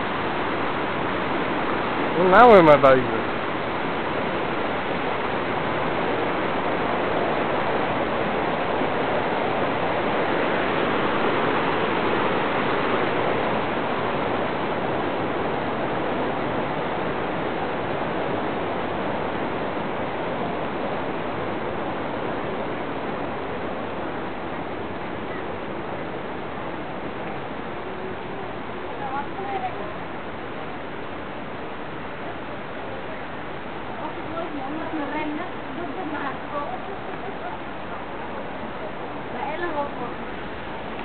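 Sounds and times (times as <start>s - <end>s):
stream water over rocks: 0.0s - 41.0s.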